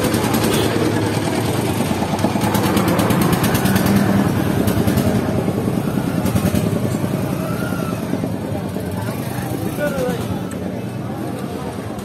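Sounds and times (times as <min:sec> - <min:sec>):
street traffic: 0:00.0 - 0:12.0
vehicle engine running: 0:00.0 - 0:12.0.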